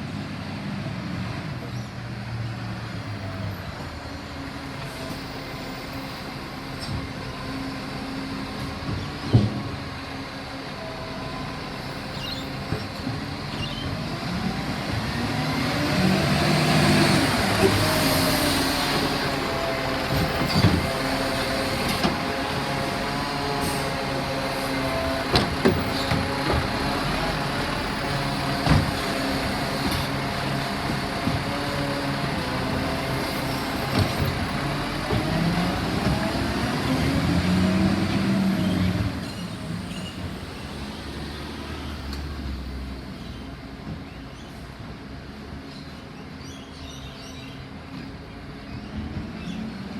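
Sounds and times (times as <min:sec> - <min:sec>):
garbage truck diesel engine whine: 0:00.0 - 0:49.9.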